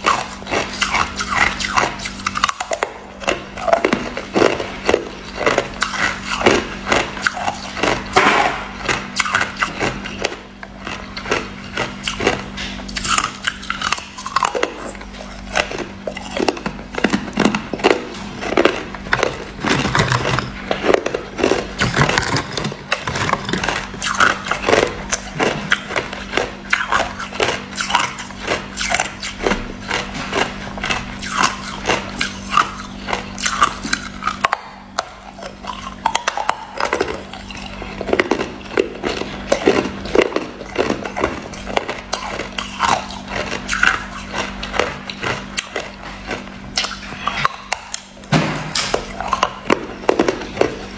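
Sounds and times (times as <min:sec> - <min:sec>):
chewing hard ice: 0:00.0 - 0:50.9
steady low hum: 0:00.0 - 0:50.9.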